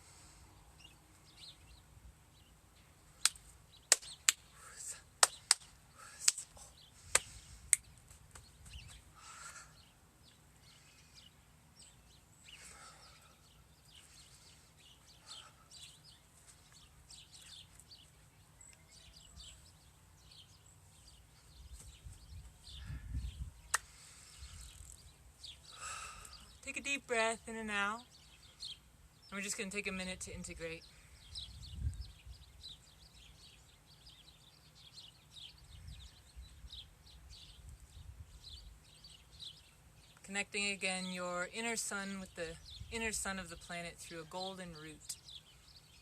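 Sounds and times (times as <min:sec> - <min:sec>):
faint outdoor background: 0:00.0 - 0:46.0.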